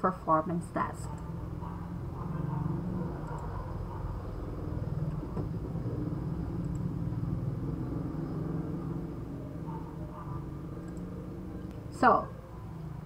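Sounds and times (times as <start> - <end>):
low background rumble: 0.3 - 13.0.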